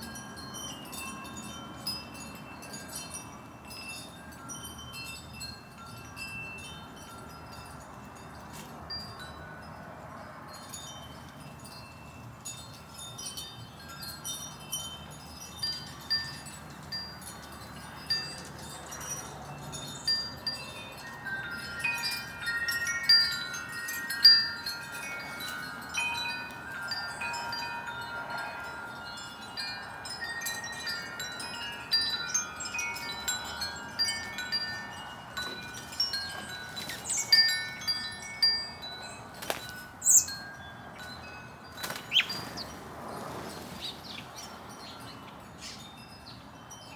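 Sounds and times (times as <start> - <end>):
wind chimes ringing: 0.0 - 46.9.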